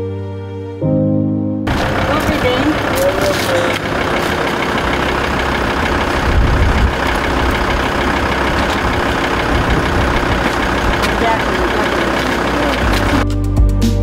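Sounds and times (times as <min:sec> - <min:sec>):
van engine idling: 0:01.7 - 0:13.6.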